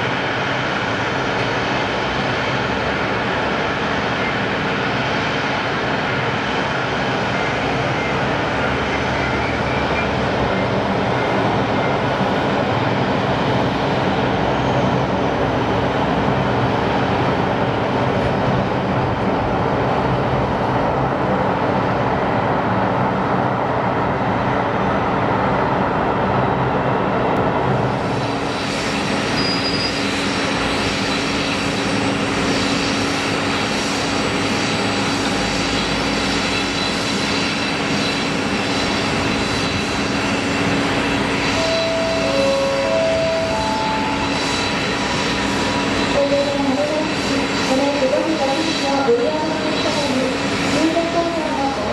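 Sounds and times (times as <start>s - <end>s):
jet engines droning: 0.0s - 51.9s.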